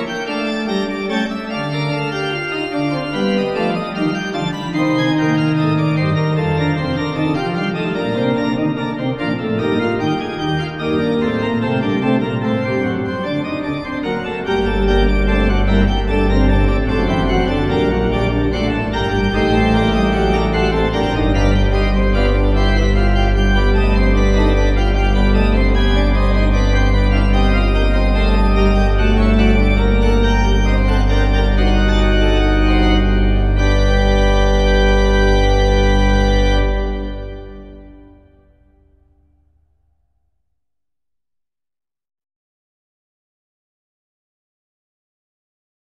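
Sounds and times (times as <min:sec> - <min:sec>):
organ chords: 0:00.0 - 0:39.7.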